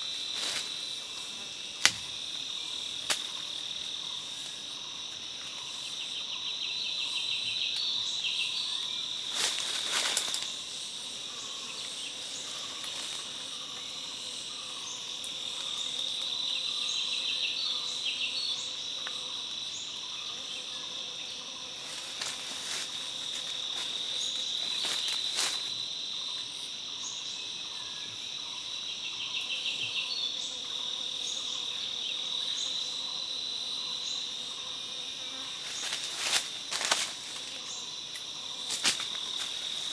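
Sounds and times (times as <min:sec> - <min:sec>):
forest insects chorus: 0:00.0 - 0:39.9
insect trills: 0:00.0 - 0:39.9.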